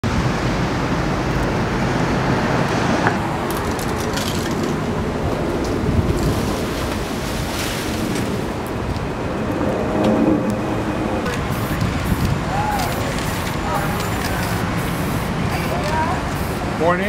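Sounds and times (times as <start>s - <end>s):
traffic hum: 0.0s - 17.0s
wind buffeting microphone: 0.0s - 17.0s.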